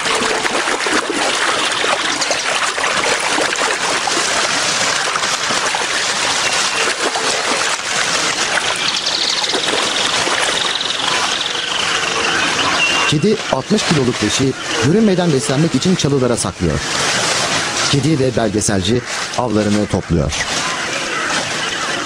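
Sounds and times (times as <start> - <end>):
shallow river water splashing: 0.0 - 22.0.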